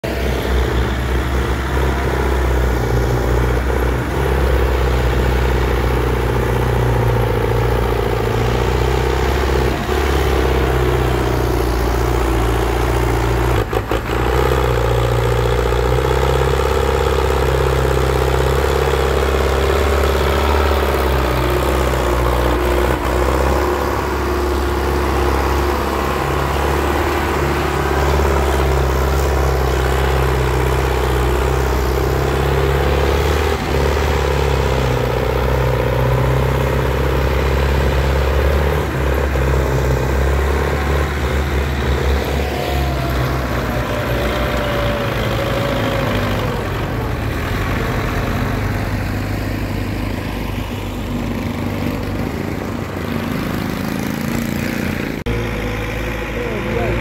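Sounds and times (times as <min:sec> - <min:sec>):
tractor diesel engine labouring: 0:00.0 - 0:57.0.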